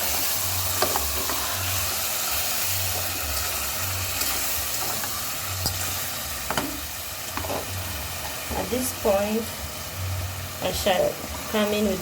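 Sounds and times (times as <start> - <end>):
tomato sauce sizzling in oil: 0.0 - 12.0.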